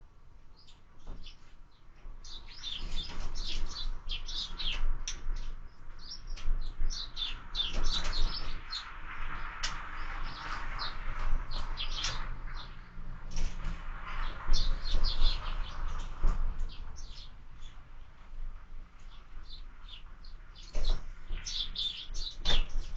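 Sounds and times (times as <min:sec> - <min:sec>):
sparrows chirping: 0:00.5 - 0:17.9, 0:19.0 - 0:22.9.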